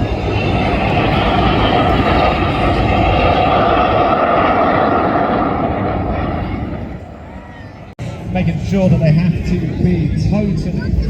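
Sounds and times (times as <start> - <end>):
jet roar: 0.0 - 11.0.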